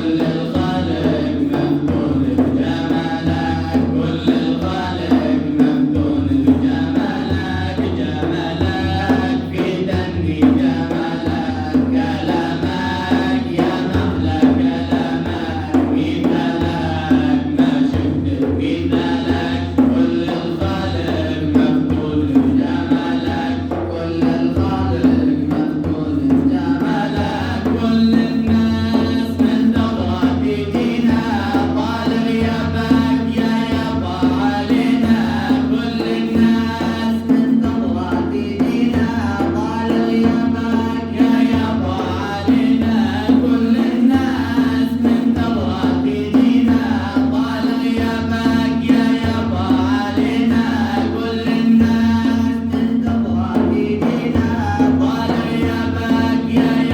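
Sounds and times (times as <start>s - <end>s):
men singing a chant-like song: 0.0s - 56.9s
percussion beat: 0.0s - 56.9s.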